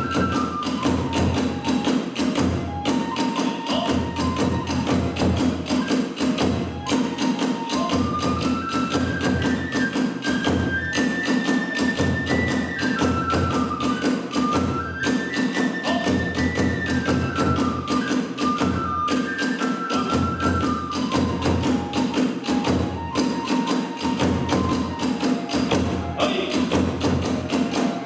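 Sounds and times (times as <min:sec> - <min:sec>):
bamboo flute melody: 0:00.0 - 0:28.0
drums: 0:00.0 - 0:28.0.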